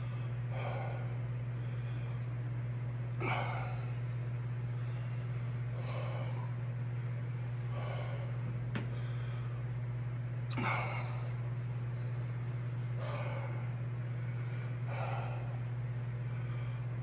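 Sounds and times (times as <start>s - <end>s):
man breathing hard: 0.0s - 2.3s, 3.2s - 9.7s, 10.5s - 17.0s
steady low hum: 0.0s - 17.0s.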